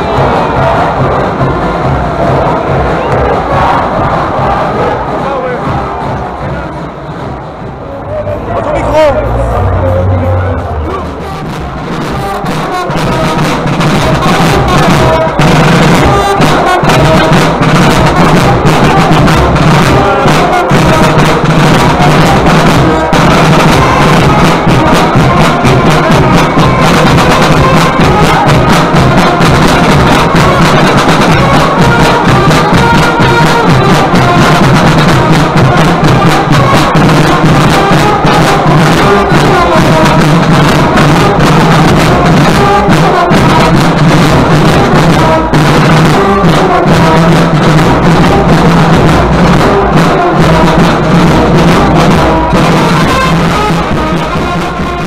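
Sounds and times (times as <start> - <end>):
brass band playing: 0.0 - 55.0
drums beaten hard: 0.0 - 55.0.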